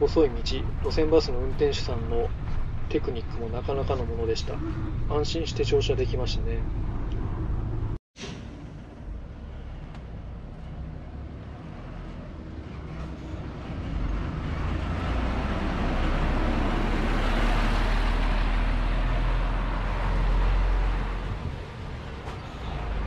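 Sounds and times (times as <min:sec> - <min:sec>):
bus diesel engine rumble: 0:00.0 - 0:23.0
road noise: 0:00.0 - 0:23.0.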